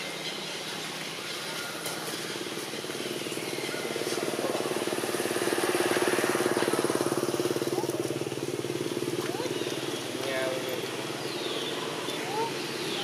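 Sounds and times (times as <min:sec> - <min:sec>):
small engine running: 0:00.8 - 0:13.0.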